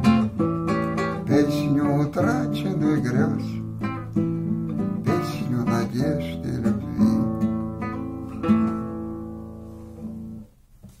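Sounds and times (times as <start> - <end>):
acoustic guitar strummed chords: 0.0 - 10.6.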